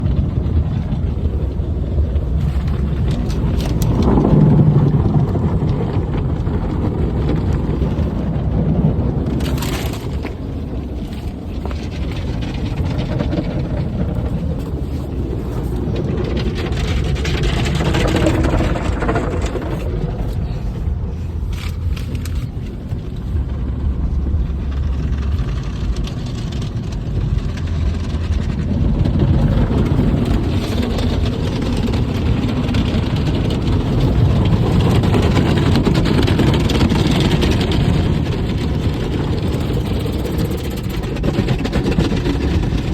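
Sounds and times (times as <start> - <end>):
car wash low rumbling: 0.0 - 42.9.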